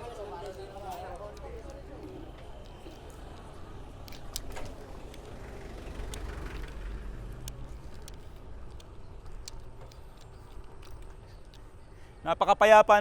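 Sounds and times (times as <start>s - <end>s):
wind and road noise rumble: 0.0s - 12.2s
bicycle clicks and rattles: 0.1s - 12.1s.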